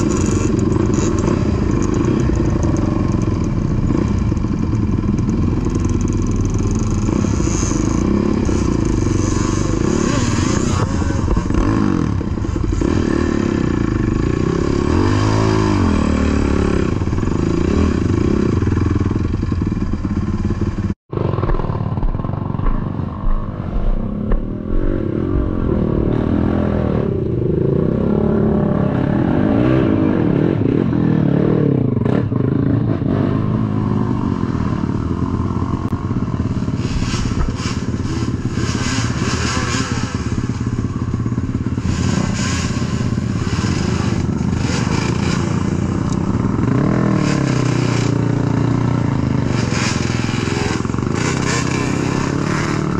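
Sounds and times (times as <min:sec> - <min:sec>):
atv engine revving: 0:00.0 - 0:52.9.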